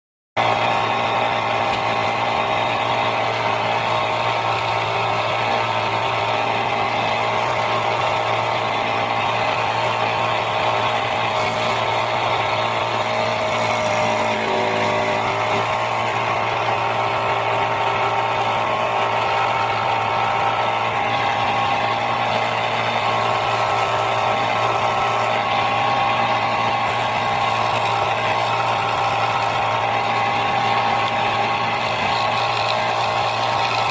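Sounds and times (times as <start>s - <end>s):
electric jigsaw cutting wood: 0.4s - 33.9s.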